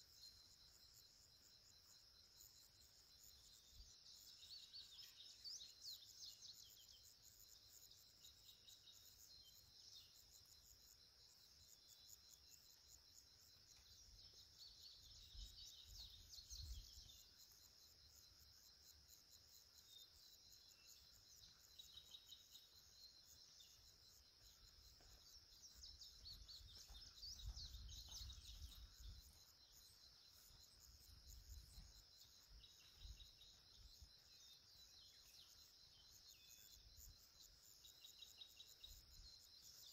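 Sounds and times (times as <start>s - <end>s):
bird chirps: 0.0s - 39.9s
high insect trill: 0.0s - 39.9s.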